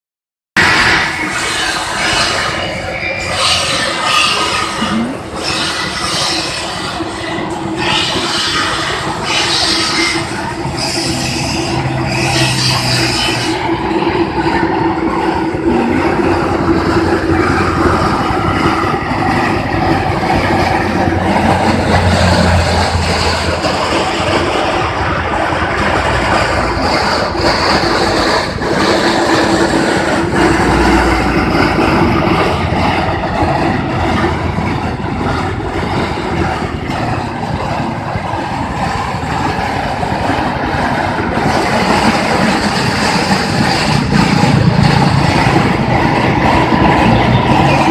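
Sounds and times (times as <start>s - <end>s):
threshing machine running: 0.7s - 47.9s.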